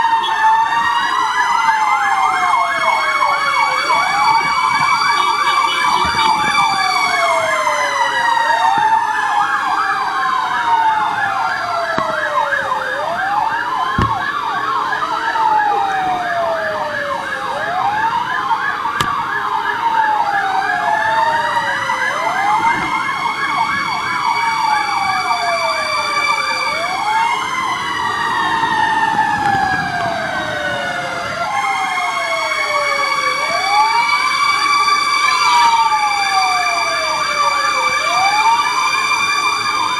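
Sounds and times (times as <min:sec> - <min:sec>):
fast warbling siren: 0:00.0 - 0:39.9
wailing fire engine siren: 0:00.0 - 0:39.9.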